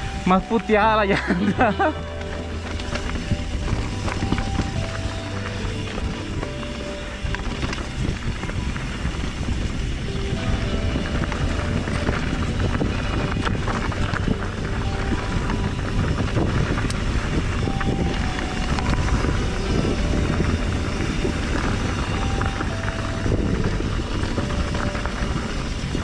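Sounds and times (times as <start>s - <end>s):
bike clicks and rattles: 0.0s - 26.0s
tyres rumbling on dirt: 0.0s - 26.0s
wind buffeting microphone: 0.0s - 26.0s.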